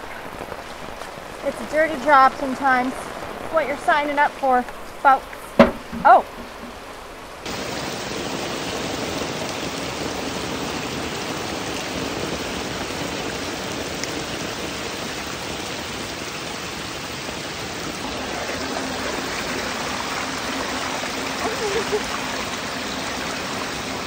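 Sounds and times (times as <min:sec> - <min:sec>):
heavy rain on water: 0:00.0 - 0:24.0.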